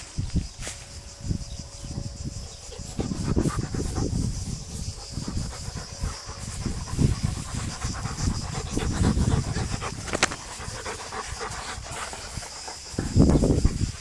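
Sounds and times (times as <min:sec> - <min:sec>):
dogs panting: 0:02.3 - 0:14.0.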